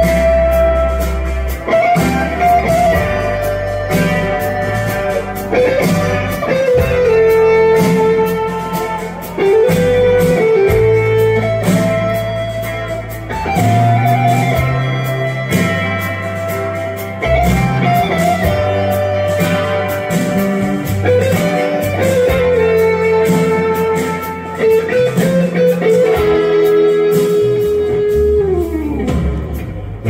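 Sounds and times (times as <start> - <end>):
bass guitar: 0.0 - 30.0
drums: 0.0 - 30.0
lead electric guitar bending notes: 0.0 - 30.0.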